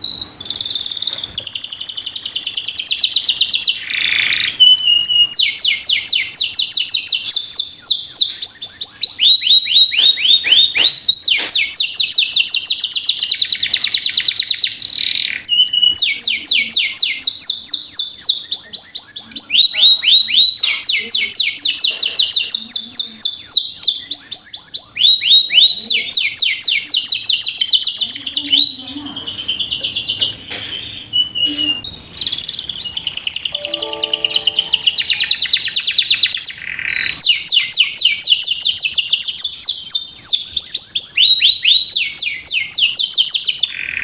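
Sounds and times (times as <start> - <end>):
canary singing: 0.0 - 44.0.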